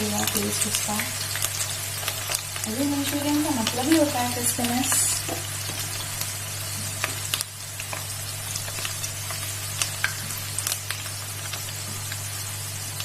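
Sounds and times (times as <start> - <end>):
small crackles and pops: 0.0 - 12.3
food deep-frying in hot oil: 0.0 - 13.0.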